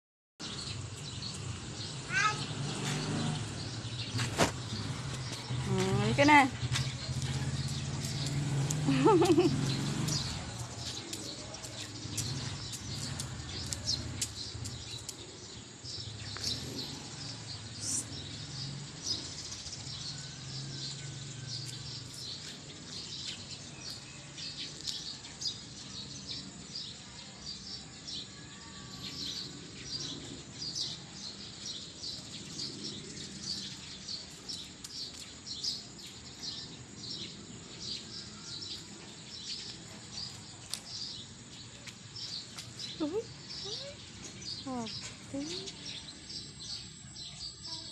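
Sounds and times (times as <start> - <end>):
birds chirping: 0.4 - 47.9.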